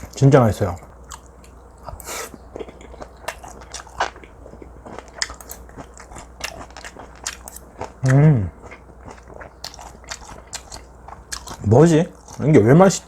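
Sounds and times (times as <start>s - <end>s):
chewing with wet clicks: 0.0s - 13.0s.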